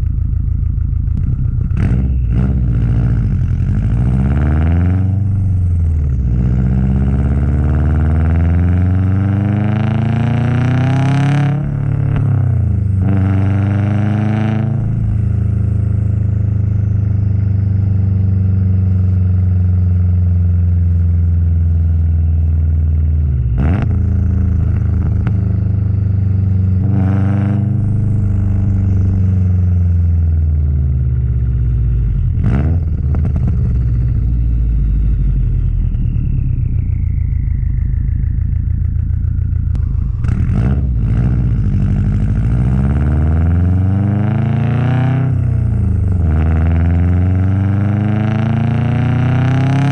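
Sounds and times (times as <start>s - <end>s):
car engine accelerating through gears: 1.0s - 49.9s.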